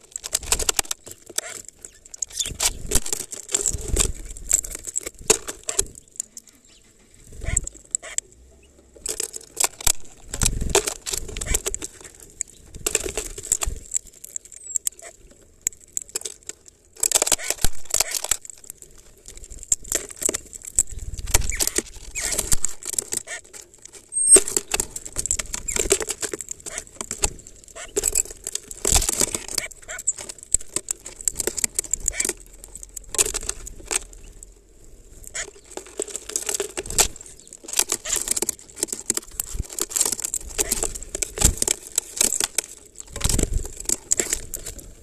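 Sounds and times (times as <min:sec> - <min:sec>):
seeds rattling against plastic: 0:00.0 - 0:08.2, 0:08.9 - 0:45.0
bird cracking seeds: 0:00.0 - 0:45.0.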